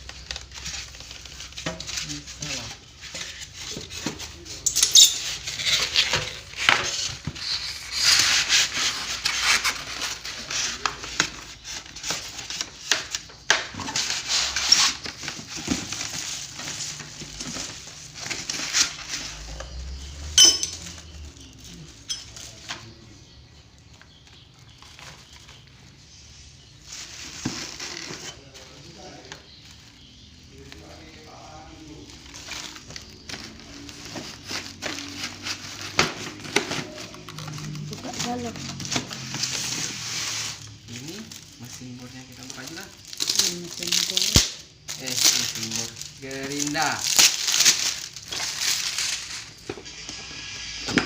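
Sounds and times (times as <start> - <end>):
plastic wrapping crinkling: 0.0 - 23.2, 26.6 - 51.0.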